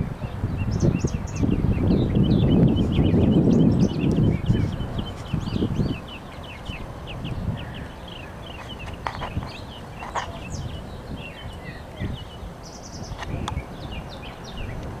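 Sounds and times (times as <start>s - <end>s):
birds chirping and singing: 0.0s - 15.0s
wind rumble on microphone: 0.0s - 15.0s.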